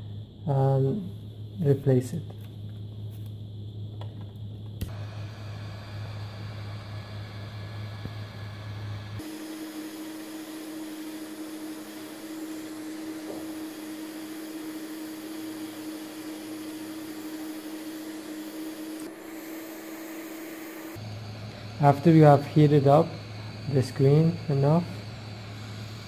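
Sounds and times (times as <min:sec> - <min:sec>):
heat gun fan humming: 0:02.4 - 0:26.0.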